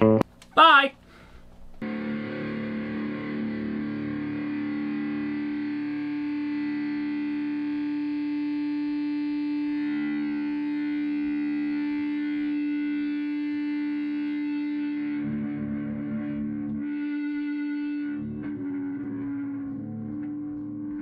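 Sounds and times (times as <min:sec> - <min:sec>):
distorted electric guitar: 0:01.8 - 0:21.0.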